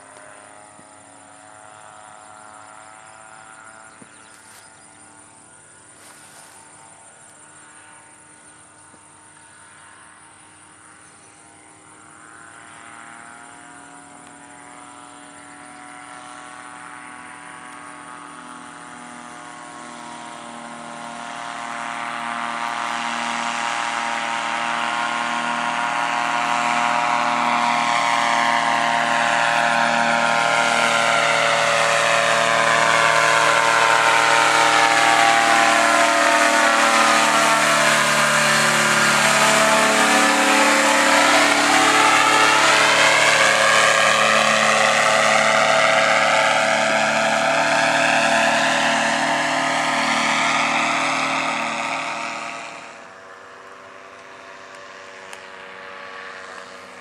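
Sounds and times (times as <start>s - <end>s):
propeller engine droning overhead: 0.0s - 57.0s.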